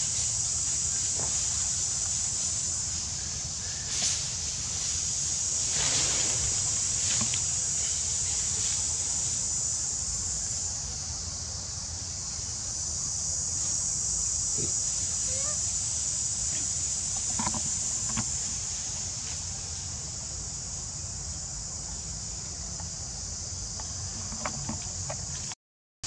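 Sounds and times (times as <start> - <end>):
high-pitched insect drone: 0.0 - 25.6.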